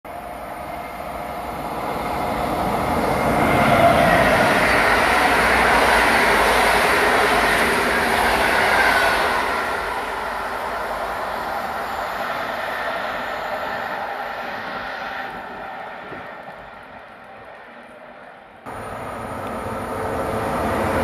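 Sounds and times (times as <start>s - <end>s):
train passing at speed: 0.1s - 21.0s.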